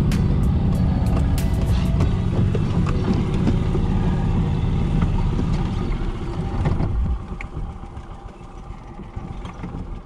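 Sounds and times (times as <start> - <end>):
golf cart driving: 0.0 - 10.0
cart body knocking and rattling: 1.0 - 10.0.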